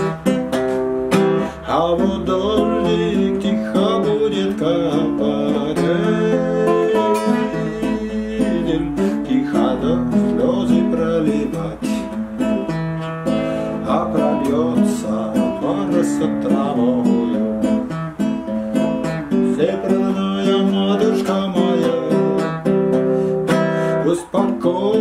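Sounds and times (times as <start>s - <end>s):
classical guitar strumming chords: 0.0s - 25.0s.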